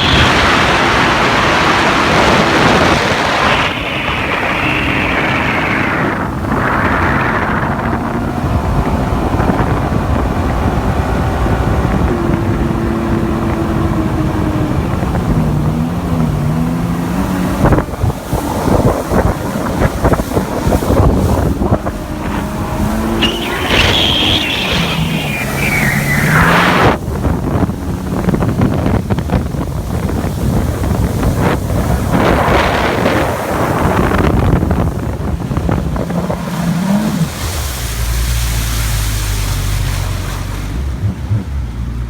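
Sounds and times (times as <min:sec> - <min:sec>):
outboard boat engine running: 0:00.0 - 0:42.0
wind buffeting bursts: 0:00.0 - 0:42.0
wind noise on microphone: 0:00.0 - 0:42.0.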